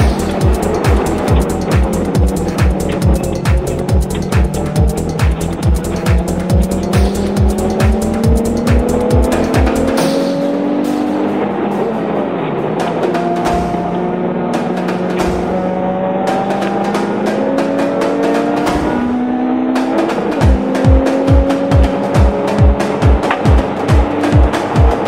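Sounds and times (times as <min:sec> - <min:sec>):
music with steady drum beat: 0:00.0 - 0:25.0
racing engine revving: 0:00.0 - 0:25.0.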